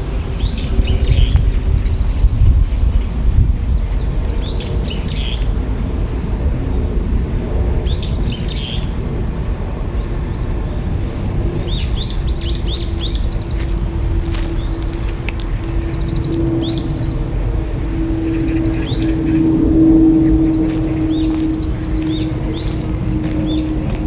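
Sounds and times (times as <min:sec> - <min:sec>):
strong wind rumbling: 0:00.0 - 0:24.0.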